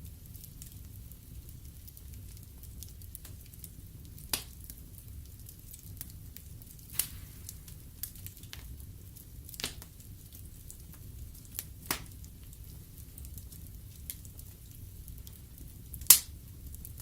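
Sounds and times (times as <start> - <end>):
fire flames rumbling: 0.0 - 17.0
logs crackling and popping: 0.1 - 17.0.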